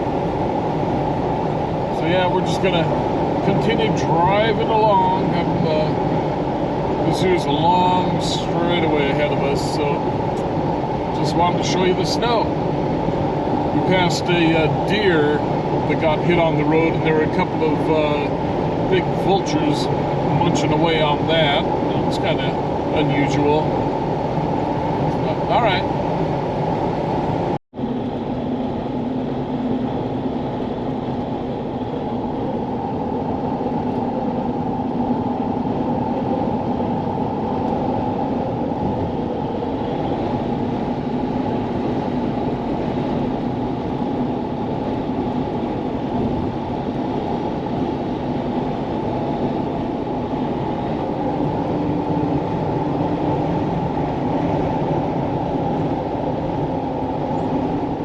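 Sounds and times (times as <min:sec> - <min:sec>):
vehicle cruising from inside cabin: 0:00.0 - 0:58.0.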